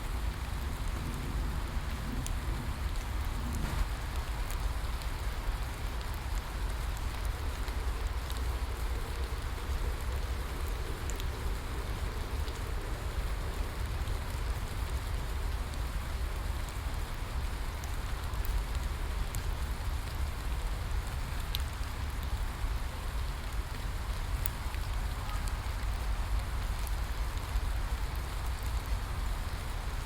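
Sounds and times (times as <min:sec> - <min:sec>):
steady rain hiss: 0:00.0 - 0:30.0
raindrop ticks: 0:00.1 - 0:30.0.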